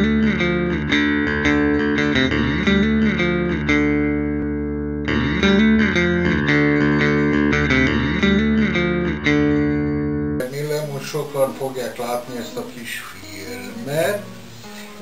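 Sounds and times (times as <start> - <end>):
instrumental music with plucked melody: 0.0 - 15.0.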